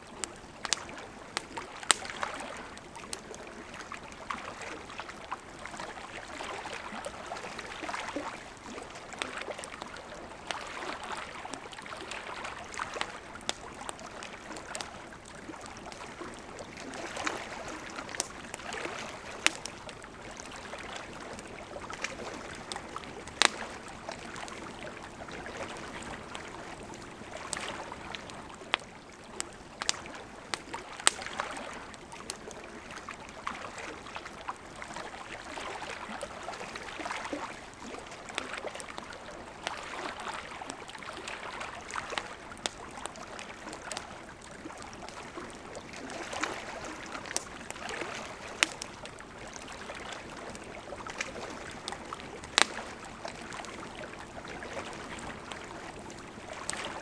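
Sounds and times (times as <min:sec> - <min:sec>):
campfire crackling and hissing: 0:00.0 - 0:57.0.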